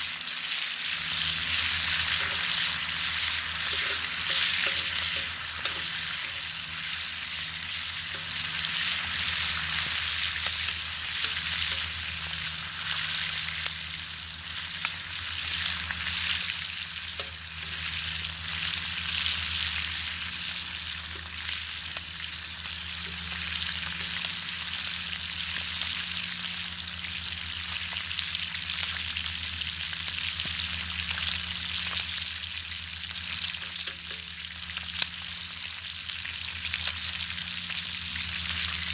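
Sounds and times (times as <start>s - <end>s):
bacon sizzling: 0.0s - 38.9s.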